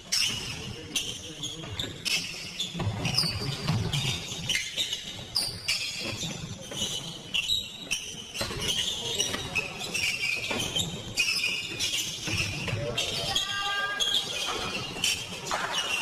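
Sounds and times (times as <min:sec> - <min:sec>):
shoes squeaking on court: 0:00.0 - 0:16.0.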